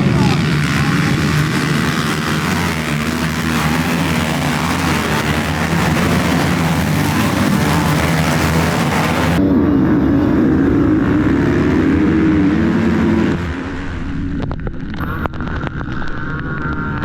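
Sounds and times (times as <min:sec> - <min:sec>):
motocross bike engines: 0:00.0 - 0:17.0.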